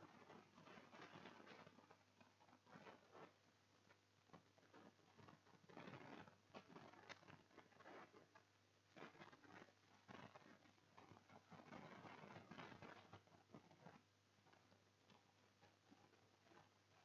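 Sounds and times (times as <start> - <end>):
soft ticks and rustles: 0.0 - 17.0.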